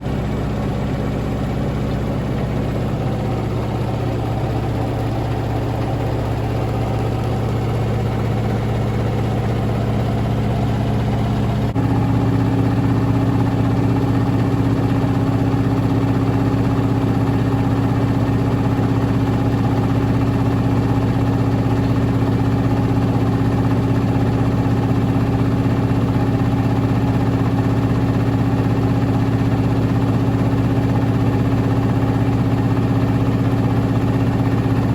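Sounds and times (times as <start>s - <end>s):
washing machine spin whine: 0.0s - 34.9s.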